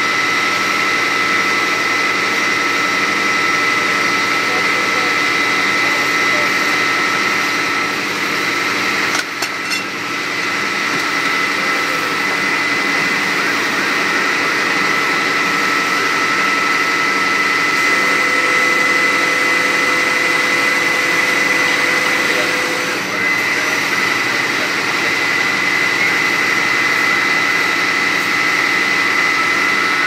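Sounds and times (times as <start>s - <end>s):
pump engine droning: 0.0s - 30.0s.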